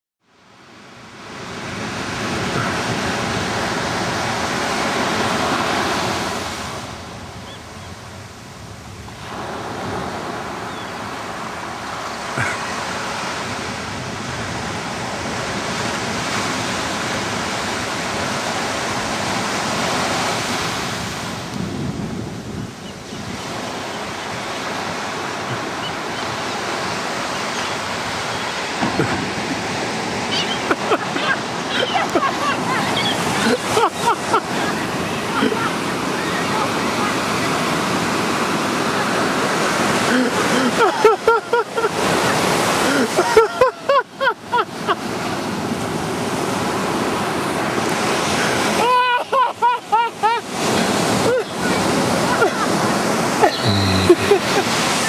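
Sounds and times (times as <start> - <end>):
ocean waves breaking: 0.5 - 55.0.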